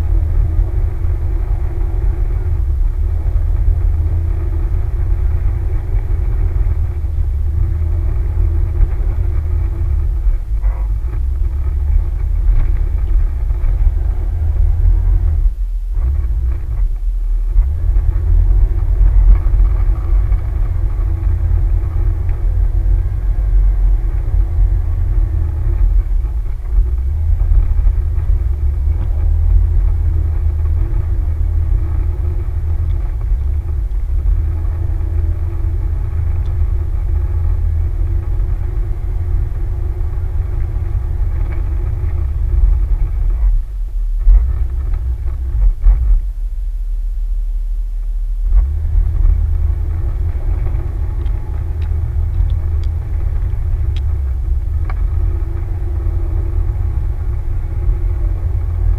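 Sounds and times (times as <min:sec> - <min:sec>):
engine note: 0:00.0 - 0:58.9
low vehicle rumble: 0:00.0 - 0:58.9.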